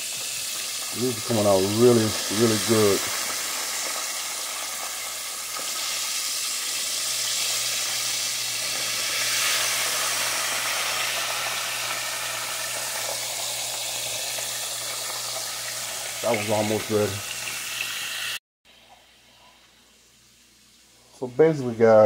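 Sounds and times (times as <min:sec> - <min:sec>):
food deep-frying in oil: 0:00.0 - 0:18.4.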